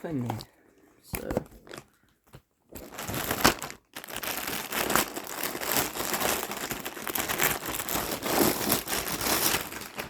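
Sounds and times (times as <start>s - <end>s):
plastic packaging crinkling: 1.6s - 10.0s.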